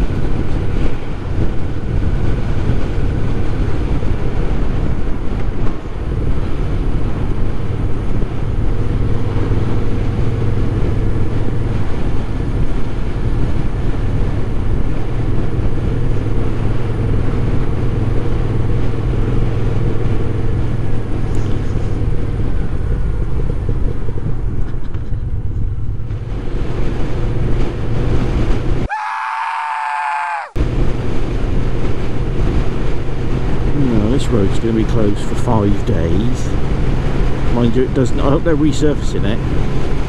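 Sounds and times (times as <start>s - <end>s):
wind and road noise: 0.0s - 40.0s.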